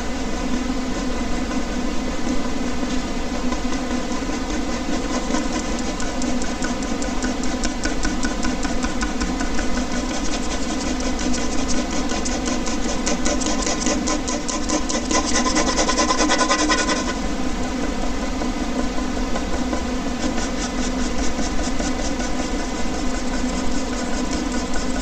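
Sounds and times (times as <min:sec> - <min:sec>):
air conditioner hum: 0:00.0 - 0:25.0
pen scratching on paper: 0:03.4 - 0:25.0.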